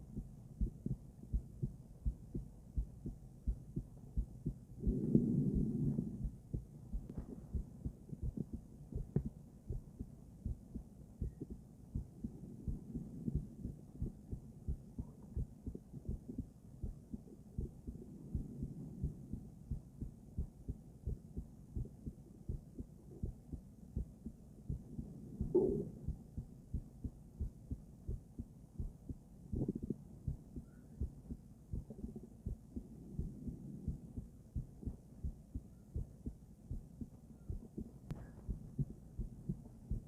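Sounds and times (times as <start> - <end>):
heartbeat through stethoscope: 0.0 - 40.0.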